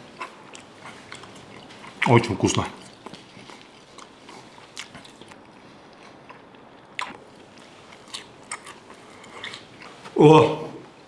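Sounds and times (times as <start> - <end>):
man chewing food: 0.0 - 11.0.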